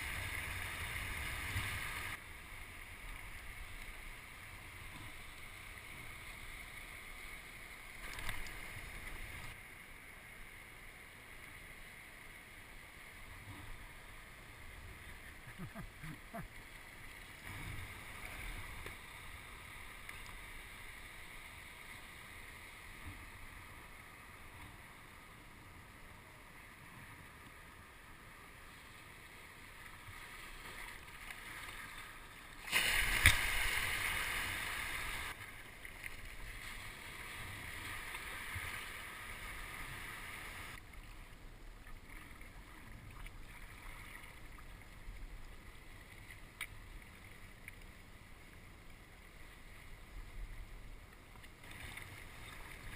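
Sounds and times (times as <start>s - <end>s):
paddle water sounds: 0.0s - 52.9s.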